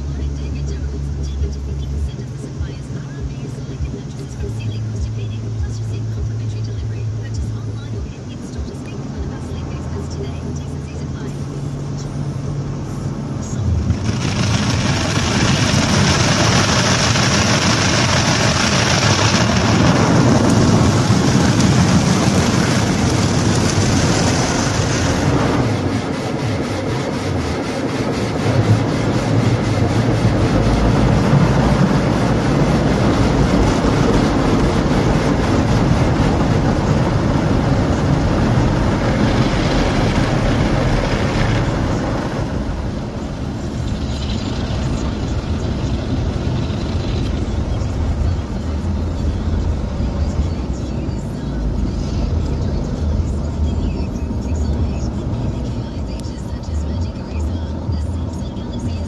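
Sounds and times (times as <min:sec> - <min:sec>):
low rushing noise: 0:00.0 - 0:59.0
water spraying on car: 0:00.0 - 0:59.0.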